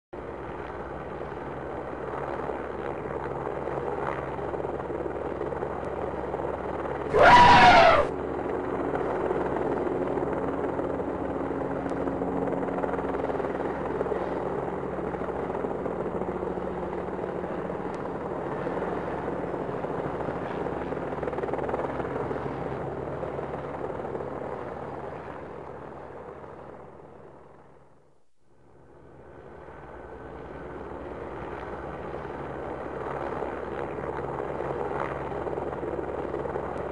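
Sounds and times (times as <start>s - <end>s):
helicopter rotor drone: 0.2s - 27.8s, 28.6s - 36.9s.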